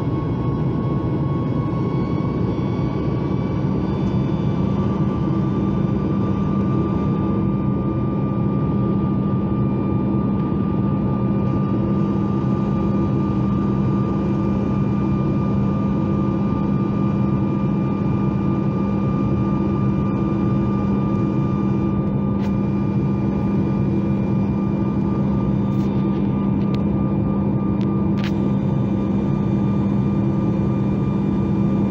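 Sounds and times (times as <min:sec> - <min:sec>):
high engine whine: 0:00.0 - 0:31.9
jet engine drone in cabin: 0:00.0 - 0:31.9.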